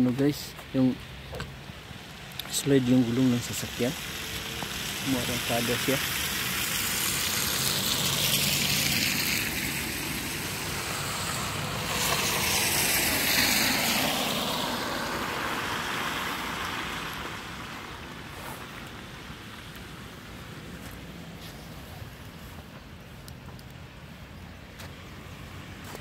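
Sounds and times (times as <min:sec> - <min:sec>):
cars driving on slushy road: 0:00.0 - 0:26.0.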